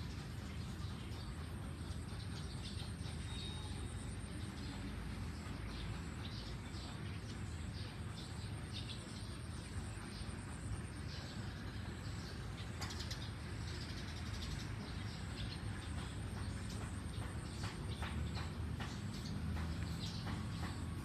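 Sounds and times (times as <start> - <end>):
bird chirps: 0.6 - 21.0.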